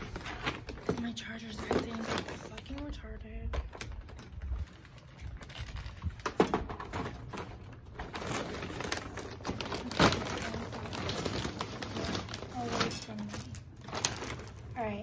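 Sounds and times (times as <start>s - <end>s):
fabric bags rustling: 0.0s - 15.0s.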